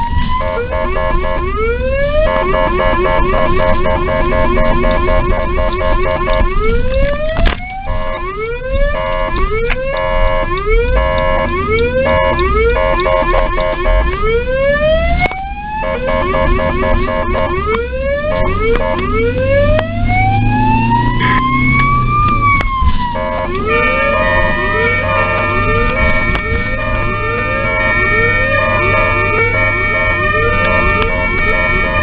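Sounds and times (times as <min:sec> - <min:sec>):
ambulance siren whoops: 0:00.0 - 0:32.0
pulsing multi-tone siren warble: 0:00.0 - 0:32.0.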